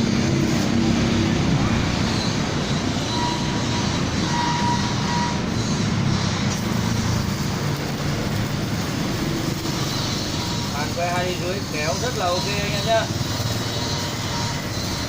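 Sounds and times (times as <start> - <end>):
welding arc hiss: 0.0 - 15.0.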